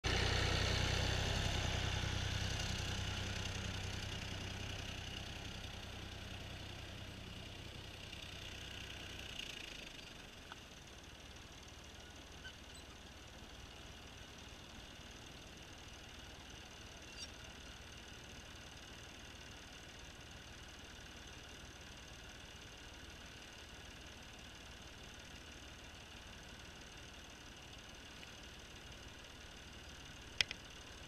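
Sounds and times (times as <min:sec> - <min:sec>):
tractor engine running: 0:00.1 - 0:31.0.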